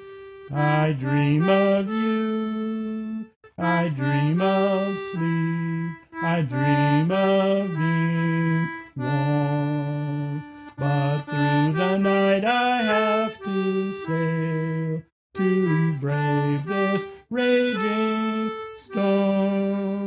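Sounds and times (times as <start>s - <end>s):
concertina playing chords and melody: 0.0s - 20.0s.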